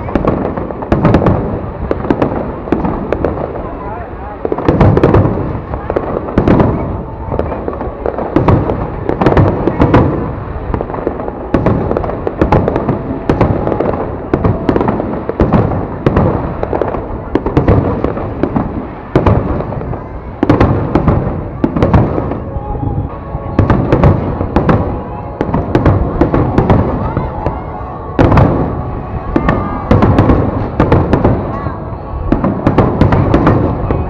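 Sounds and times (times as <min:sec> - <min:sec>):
fireworks banging: 0:00.0 - 0:34.0.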